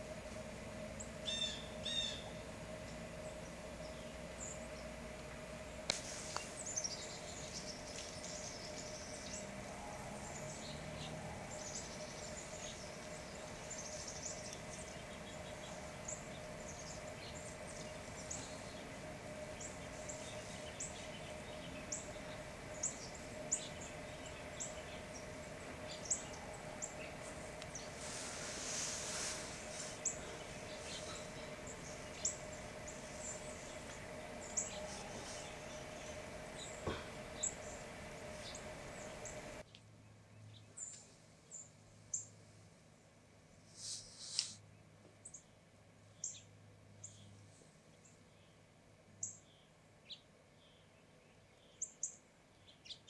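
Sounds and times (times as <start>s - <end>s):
songbirds chipping and twittering: 0.0s - 42.4s, 43.9s - 53.0s
faint steady hum: 0.0s - 53.0s.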